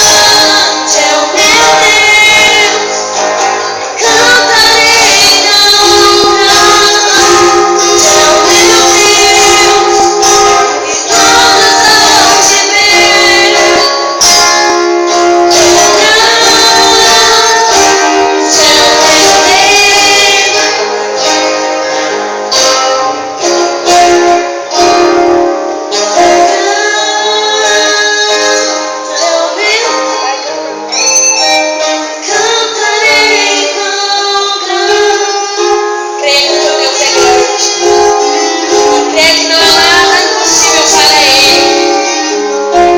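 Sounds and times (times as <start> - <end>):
women singing: 0.0 - 14.4, 15.5 - 20.9, 25.9 - 30.7, 32.2 - 42.9
band instruments playing: 0.0 - 34.0, 35.0 - 42.9.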